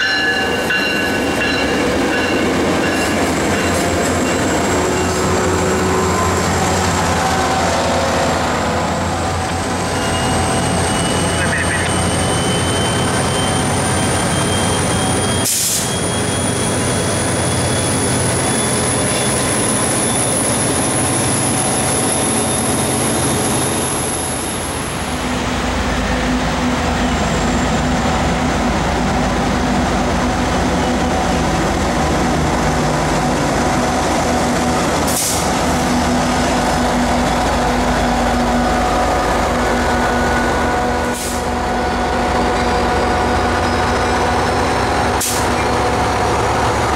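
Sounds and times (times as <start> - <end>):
train rail noise: 0.0 - 46.9.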